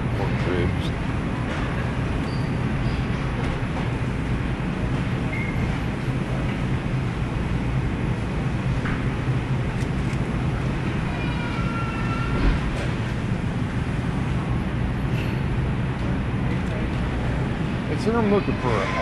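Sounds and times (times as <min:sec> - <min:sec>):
supermarket background noise: 0:00.0 - 0:19.0.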